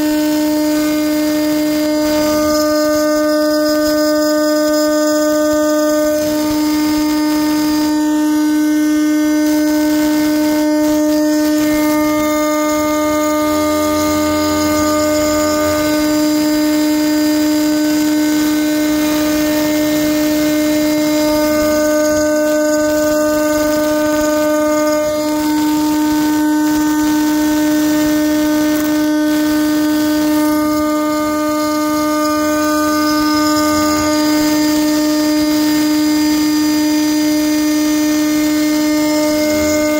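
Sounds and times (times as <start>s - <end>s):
metal cutting hiss: 0.0s - 39.9s
router spindle high whine: 0.0s - 39.9s.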